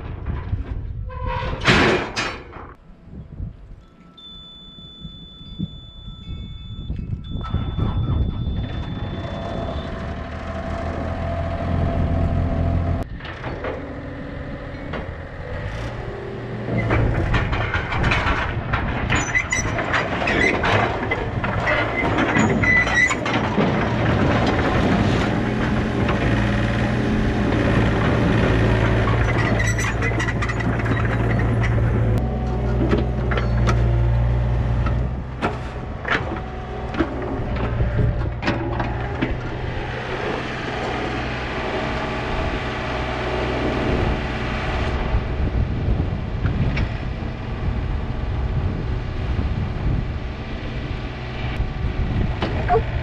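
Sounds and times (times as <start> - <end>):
diesel engine running: 7.4 - 53.0.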